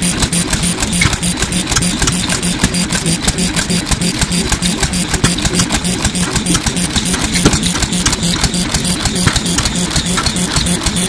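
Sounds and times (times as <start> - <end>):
fast even valve clicking: 0.0 - 11.0
stationary oil engine running: 0.0 - 11.0.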